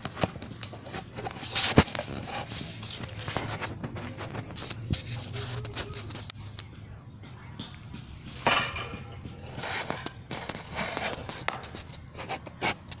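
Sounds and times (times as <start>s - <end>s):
rustling and scraping: 0.0s - 6.8s, 7.6s - 13.0s.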